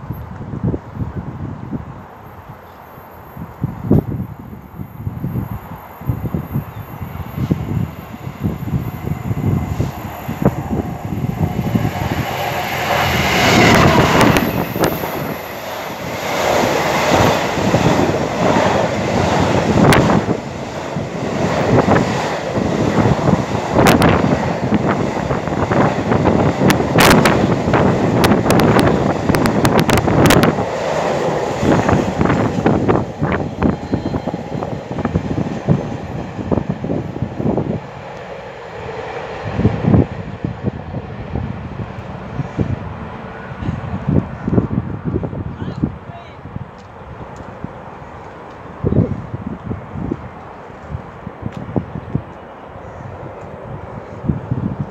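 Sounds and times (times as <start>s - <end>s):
diesel locomotive passing: 0.0s - 54.9s.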